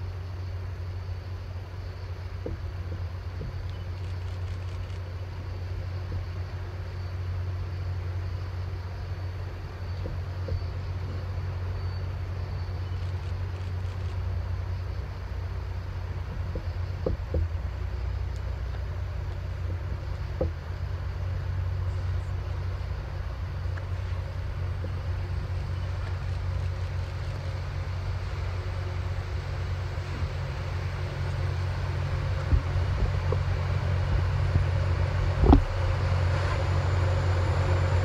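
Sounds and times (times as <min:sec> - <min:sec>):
diesel engines rumbling: 0:00.0 - 0:38.0.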